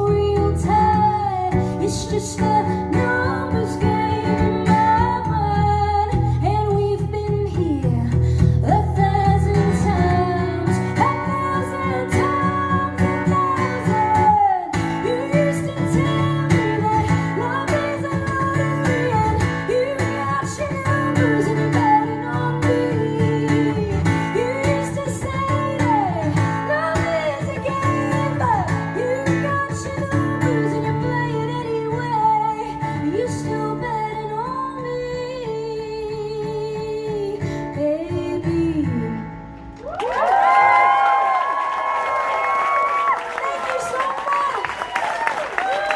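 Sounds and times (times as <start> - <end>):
woman singing: 0.0 - 39.5
strummed guitar: 0.0 - 39.7.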